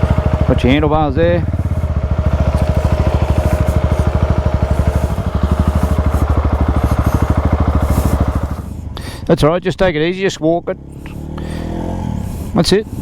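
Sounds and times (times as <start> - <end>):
motorcycle engine idling: 0.0 - 9.9, 10.8 - 13.0.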